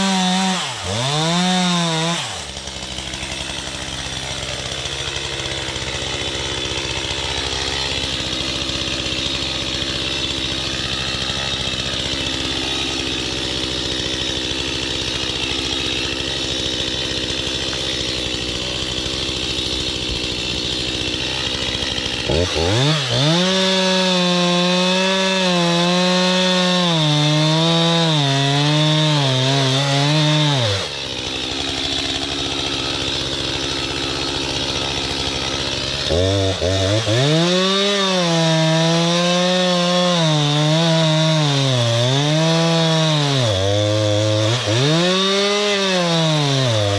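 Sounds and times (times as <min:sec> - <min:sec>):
chainsaw idling and revving: 0:00.0 - 0:46.9.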